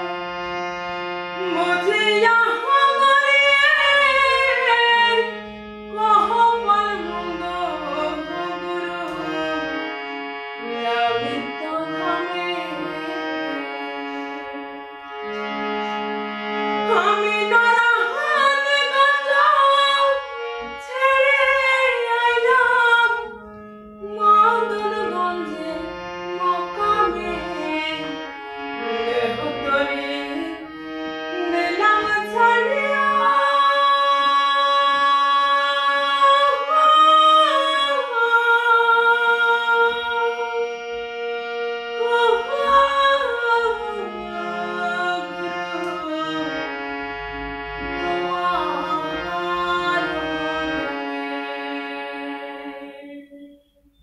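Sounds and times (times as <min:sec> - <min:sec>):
instrumental accompaniment: 0:00.0 - 0:54.0
woman singing devotional song: 0:01.3 - 0:47.1, 0:47.9 - 0:53.6.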